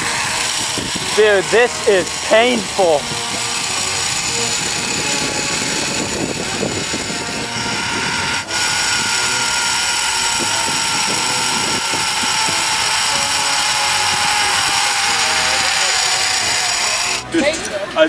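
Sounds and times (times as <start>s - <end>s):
rushing wind: 0.0s - 16.9s
zipline pulleys whining: 0.0s - 18.0s.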